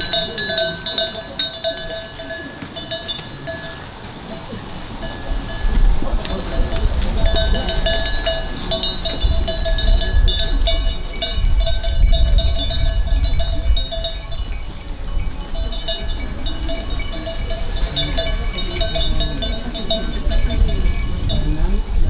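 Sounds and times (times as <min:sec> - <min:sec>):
bell-like metallic chimes: 0:00.0 - 0:22.0.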